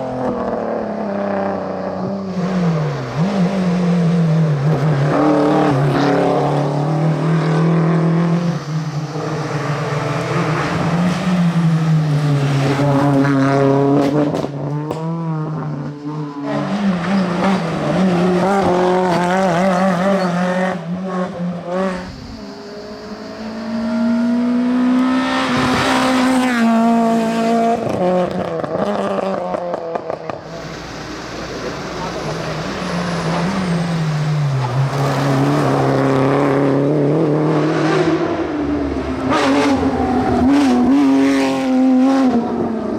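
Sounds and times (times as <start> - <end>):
rally car engine at full throttle: 0.0 - 42.9.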